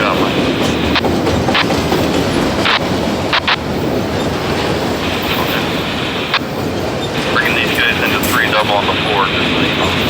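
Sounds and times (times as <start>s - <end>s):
sharp clicks of train wheels: 0.0s - 10.0s
steel wheels rumbling on rail: 0.0s - 10.0s.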